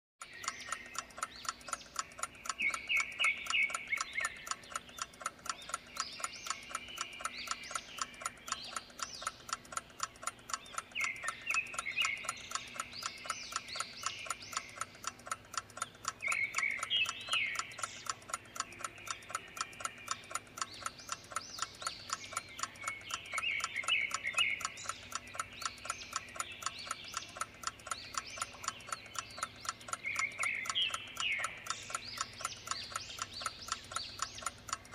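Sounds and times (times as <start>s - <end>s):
birds chirping: 0.2s - 34.9s
clock ticking: 0.2s - 34.9s.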